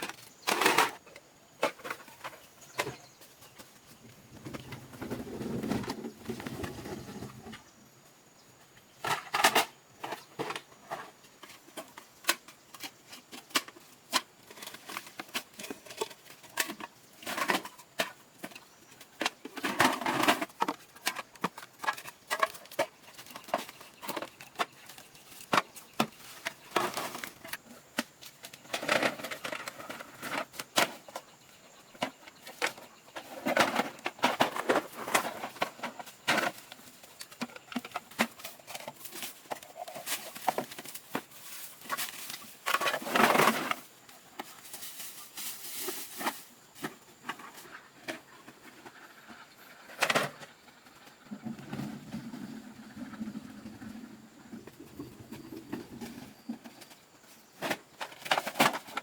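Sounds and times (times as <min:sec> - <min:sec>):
objects clattering and knocking: 0:00.0 - 0:07.7, 0:09.0 - 0:59.0
rustling of objects handled: 0:09.0 - 0:53.9, 0:54.5 - 0:59.0.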